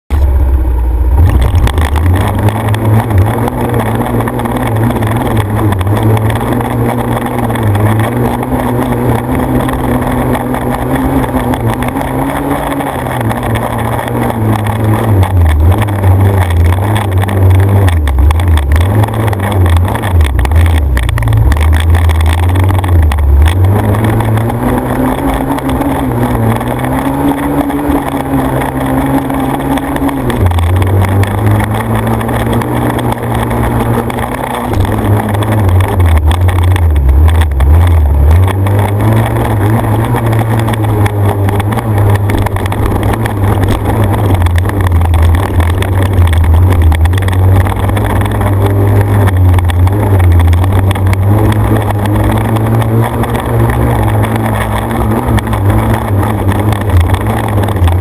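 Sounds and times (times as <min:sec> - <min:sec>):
off-road vehicle engine revving: 0:00.1 - 0:58.0
wind noise on microphone: 0:01.1 - 0:58.0.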